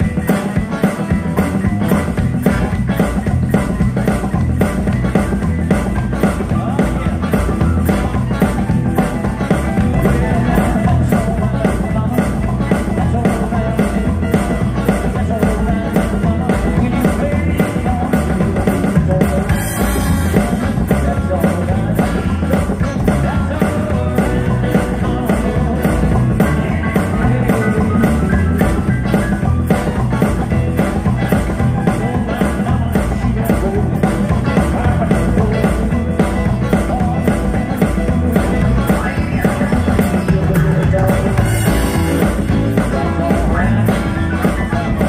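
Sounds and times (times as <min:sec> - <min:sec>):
live rock and roll band: 0:00.0 - 0:45.0.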